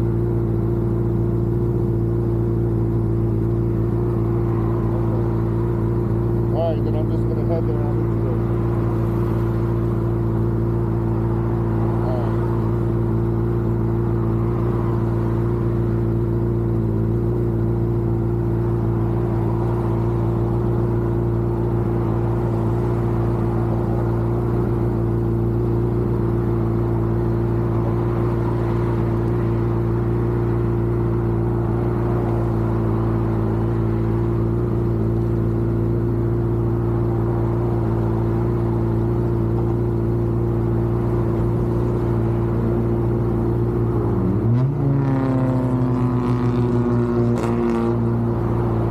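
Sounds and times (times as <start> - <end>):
vehicle engine droning: 0.0 - 48.9.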